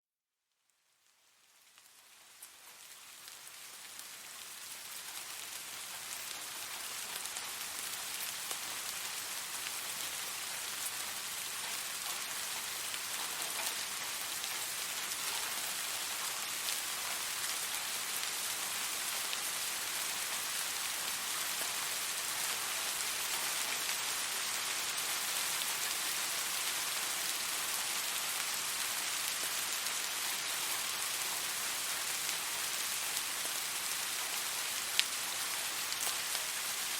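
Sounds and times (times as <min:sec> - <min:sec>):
steady rain falling: 0:00.6 - 0:36.9.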